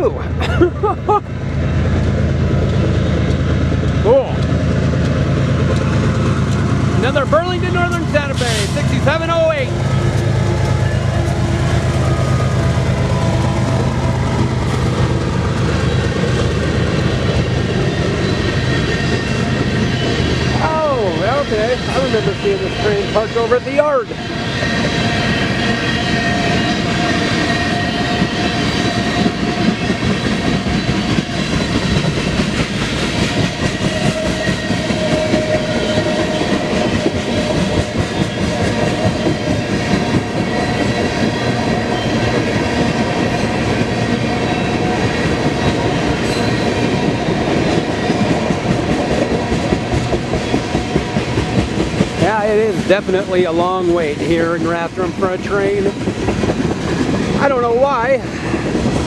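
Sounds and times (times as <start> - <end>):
train wheels clattering over rails: 1.6 - 59.0.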